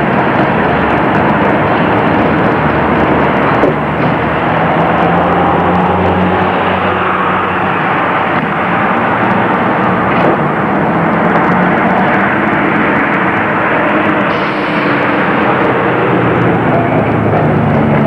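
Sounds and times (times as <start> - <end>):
tram motor hum: 0.0 - 18.0
tram wheels rumbling on rails: 0.0 - 18.0.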